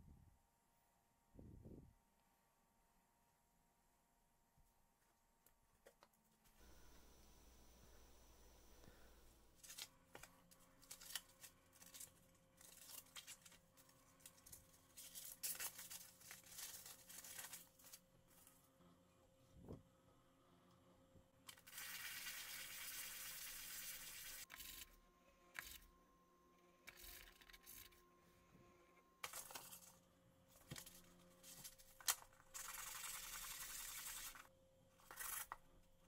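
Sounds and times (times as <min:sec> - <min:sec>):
faint steady hum: 0:00.0 - 0:21.7, 0:23.4 - 0:36.0.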